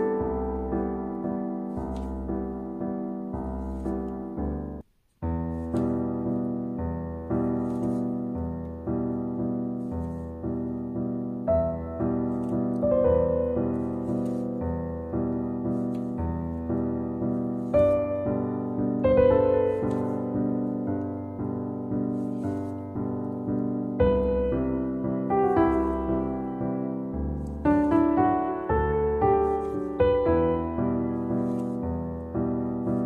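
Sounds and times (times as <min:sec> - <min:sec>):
soft piano music: 0:00.0 - 0:33.0.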